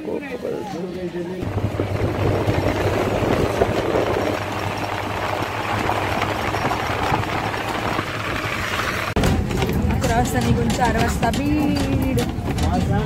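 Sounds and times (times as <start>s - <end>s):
road noise: 1.0s - 13.0s
bus engine hum: 1.2s - 13.0s.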